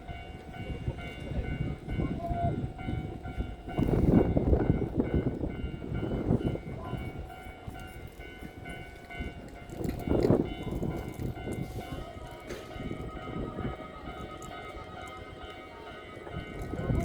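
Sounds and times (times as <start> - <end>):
train wheels rumbling on rails: 0.0 - 17.0
train whine: 0.0 - 17.0.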